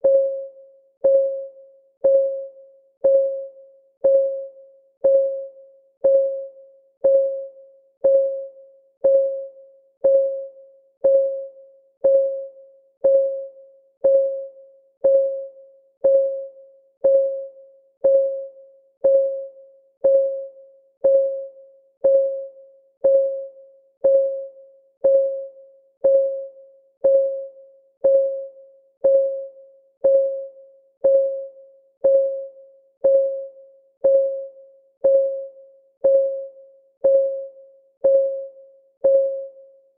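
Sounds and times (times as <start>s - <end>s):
timer ticking: 1.0s - 39.5s.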